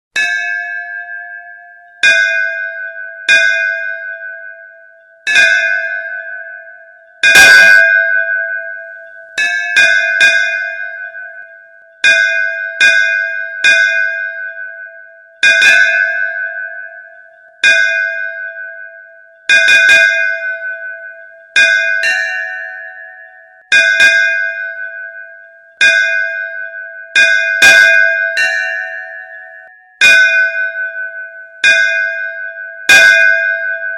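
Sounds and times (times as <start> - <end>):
higher-pitched bell: 0.2 - 33.9.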